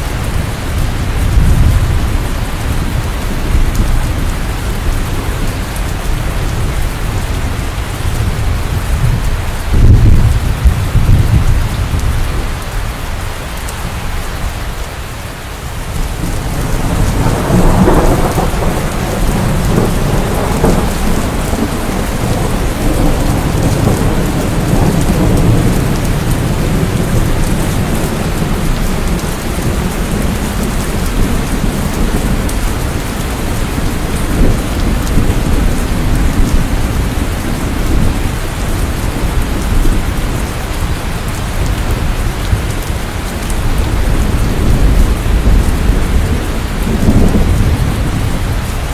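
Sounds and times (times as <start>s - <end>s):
thunder rumbling: 0.0s - 12.8s, 15.6s - 48.9s
steady rain: 0.0s - 48.9s.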